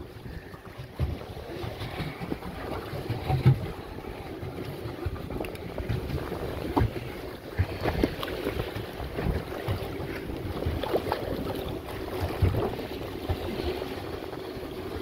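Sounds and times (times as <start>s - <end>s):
water sloshing against boat: 0.0s - 15.0s.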